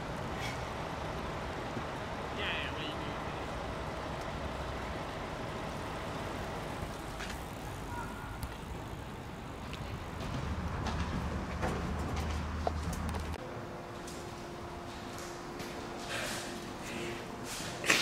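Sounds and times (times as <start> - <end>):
motor vehicle rumble and hiss: 0.0 - 18.0.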